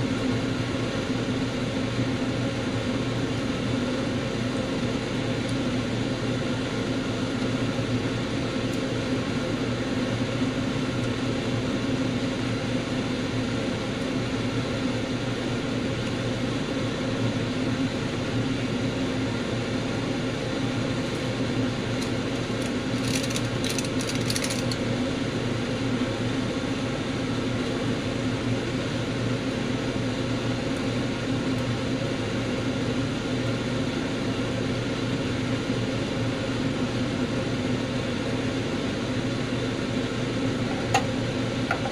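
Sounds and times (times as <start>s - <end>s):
low machine hum: 0.0s - 41.9s.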